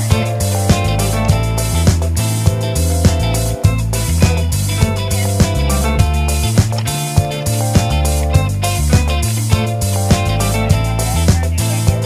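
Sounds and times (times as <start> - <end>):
background music with held notes: 0.0 - 12.0
steady beat: 0.0 - 12.0.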